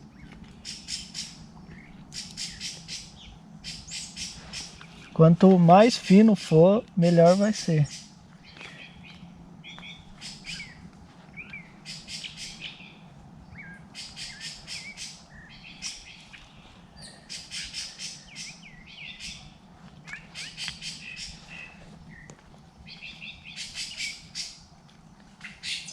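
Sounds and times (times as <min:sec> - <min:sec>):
birds whistling: 0:00.0 - 0:05.2, 0:07.1 - 0:24.7, 0:25.4 - 0:25.9
birds chirping: 0:00.0 - 0:25.9
faint low hum: 0:00.0 - 0:25.9.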